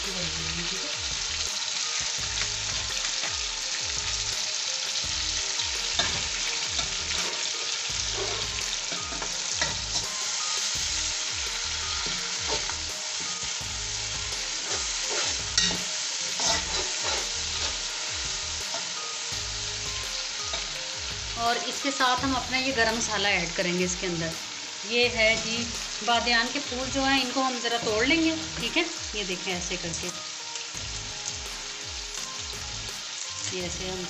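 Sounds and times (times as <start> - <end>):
frying in hot oil sizzle: 0.0 - 34.0.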